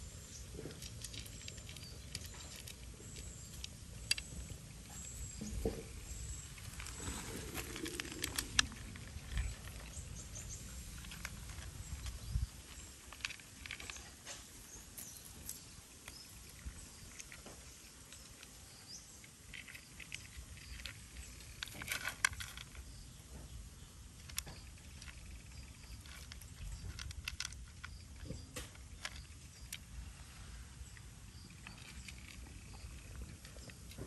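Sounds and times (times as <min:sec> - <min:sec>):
cat chewing dry kibble: 0:00.0 - 0:34.0.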